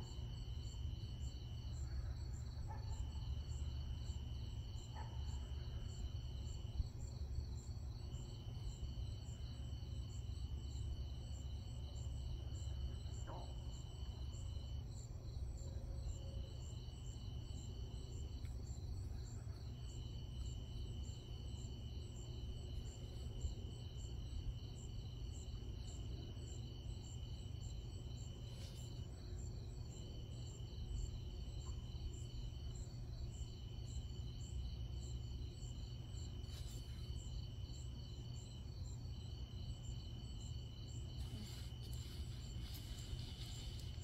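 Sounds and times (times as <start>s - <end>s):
rhythmic insect chirping: 0.0s - 44.0s.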